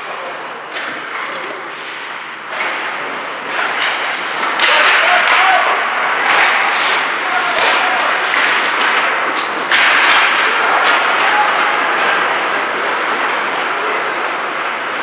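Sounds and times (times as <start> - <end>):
spectators' voices: 0.0 - 15.0
hockey sticks and puck knocking: 0.1 - 15.0.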